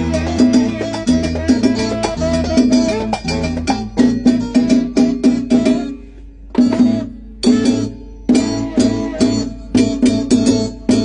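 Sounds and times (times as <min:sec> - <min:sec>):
bass: 0:00.0 - 0:11.0
strummed guitar chords: 0:00.0 - 0:11.0.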